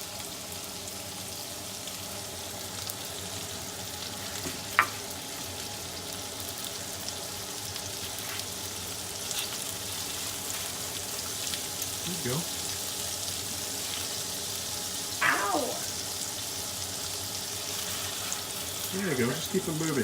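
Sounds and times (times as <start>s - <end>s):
sizzling in a frying pan: 0.0s - 20.0s.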